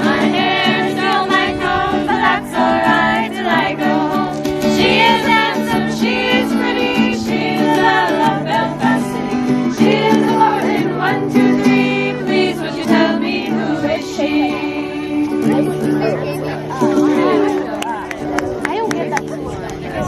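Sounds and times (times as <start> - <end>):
voices singing: 0.0 - 18.3
guitar accompaniment: 0.0 - 20.0.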